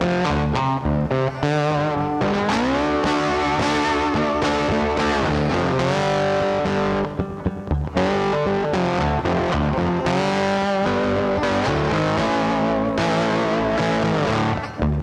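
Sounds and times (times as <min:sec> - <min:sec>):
bass: 0:00.0 - 0:15.0
distorted electric guitar chords: 0:00.0 - 0:15.0.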